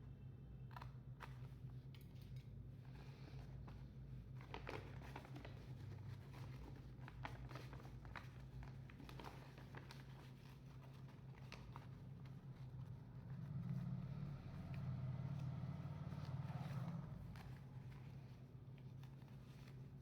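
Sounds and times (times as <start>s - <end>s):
paper rustling and creasing: 2.8s - 20.0s.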